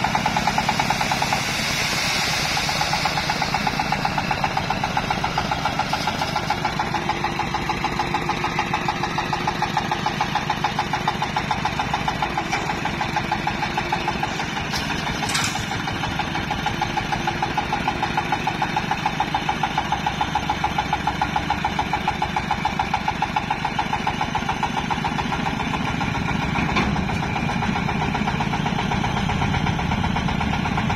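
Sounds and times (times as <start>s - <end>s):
dump carrier engine idling: 0.0s - 30.9s.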